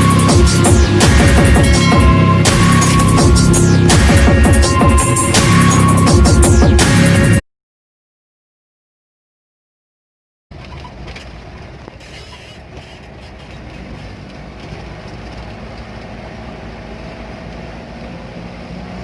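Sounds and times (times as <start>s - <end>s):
large engine droning: 0.0s - 7.4s, 10.6s - 19.0s.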